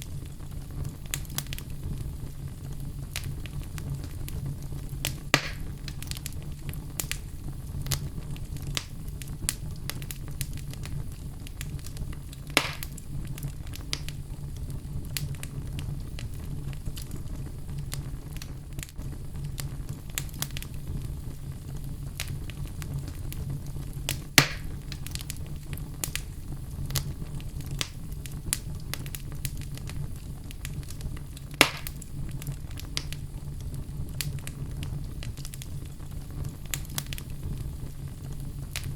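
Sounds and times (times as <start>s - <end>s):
fire crackling: 0.0s - 38.9s
loud fire pops: 0.0s - 38.9s.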